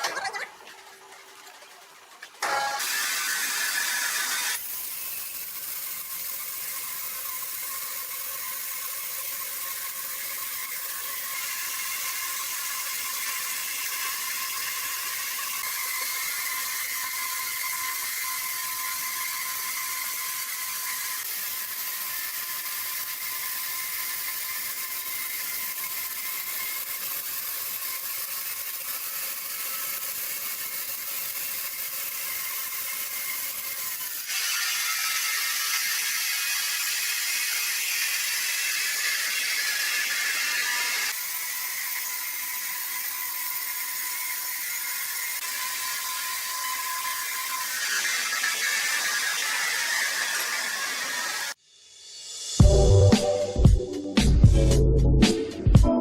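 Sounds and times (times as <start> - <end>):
sawmill machine whirring: 0.0 - 55.6.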